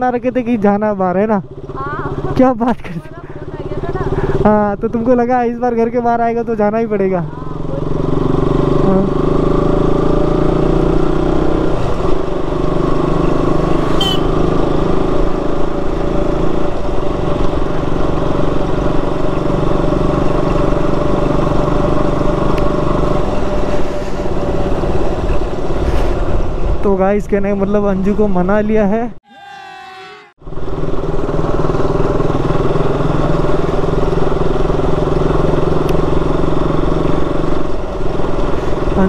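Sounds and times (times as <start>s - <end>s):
motorcycle engine cruising: 0.0s - 39.0s
road and air noise: 0.0s - 39.0s.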